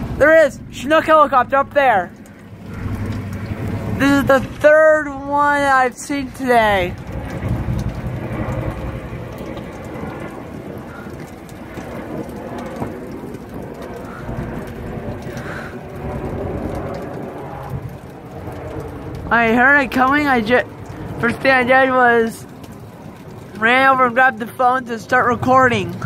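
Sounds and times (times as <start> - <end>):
helicopter rotors rumbling: 0.0 - 26.0
rain falling: 0.0 - 26.0.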